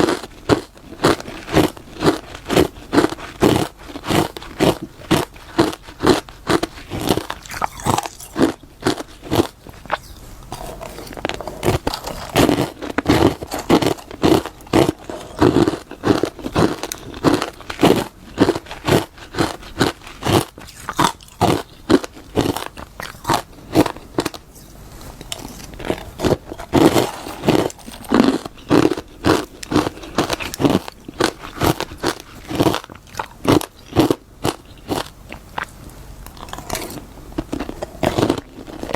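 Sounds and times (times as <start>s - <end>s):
chewing crunchy frost: 0.0s - 38.9s.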